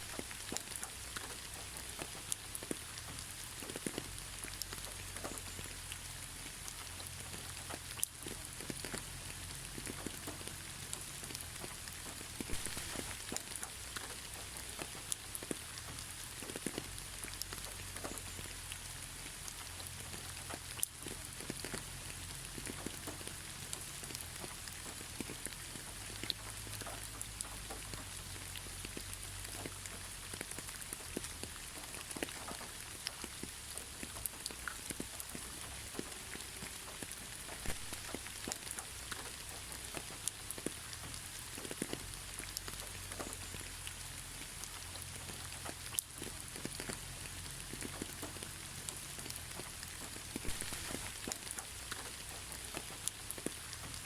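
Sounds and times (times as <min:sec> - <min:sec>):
gentle rain hiss: 0:00.0 - 0:54.0
raindrops pattering on surfaces: 0:00.0 - 0:54.0.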